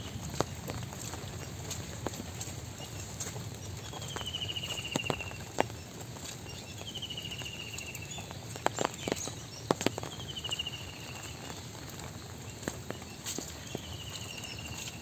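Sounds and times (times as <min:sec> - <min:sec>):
footsteps on muddy road: 0:00.0 - 0:15.0.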